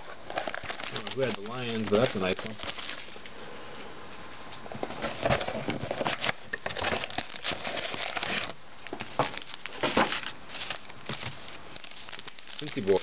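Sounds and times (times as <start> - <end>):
plastic wrapping crinkling: 0.0 - 3.3, 5.0 - 13.0.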